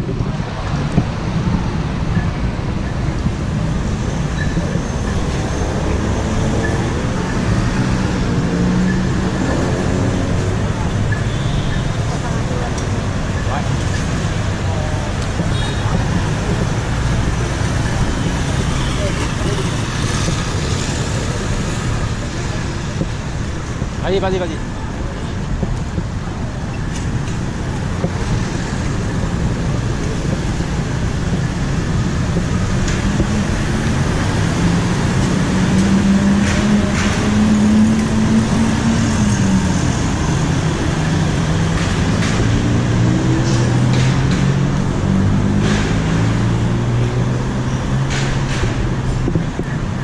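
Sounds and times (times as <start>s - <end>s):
road traffic: 0.0s - 50.0s.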